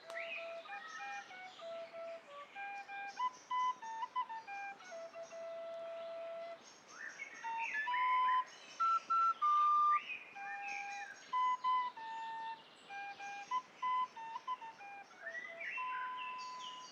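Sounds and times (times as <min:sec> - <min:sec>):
slow flute melody: 0:00.0 - 0:06.6, 0:07.4 - 0:16.9
bird chirps: 0:00.0 - 0:16.9.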